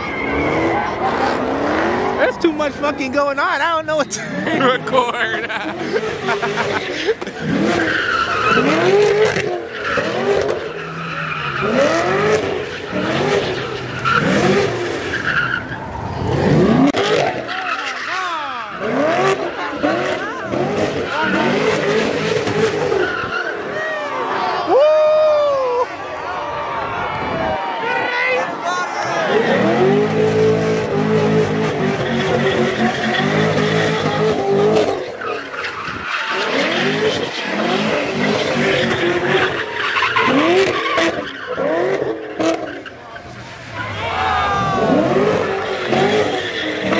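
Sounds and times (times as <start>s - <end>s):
car engine revving: 0.0s - 23.8s, 29.0s - 46.9s.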